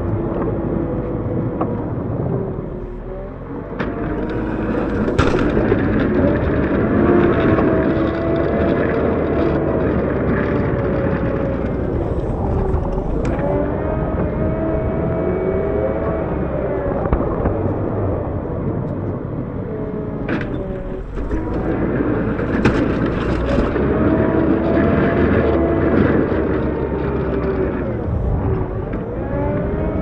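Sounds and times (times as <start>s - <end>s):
wheel loader diesel engine: 0.0s - 30.0s.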